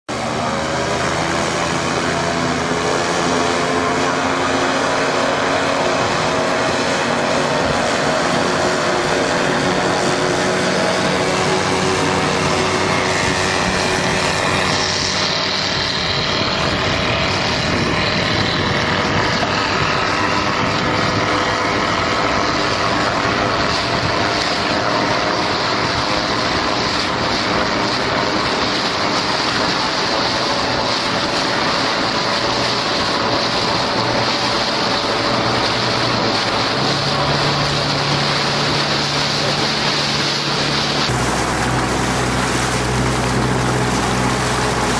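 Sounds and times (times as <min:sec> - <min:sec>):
engine droning: 0:00.1 - 0:44.9
wind noise on microphone: 0:00.1 - 0:44.9.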